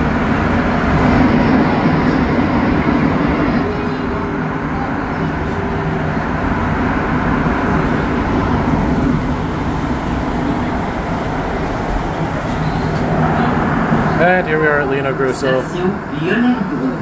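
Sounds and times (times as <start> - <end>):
train rumbling through tunnel: 0.0 - 17.0.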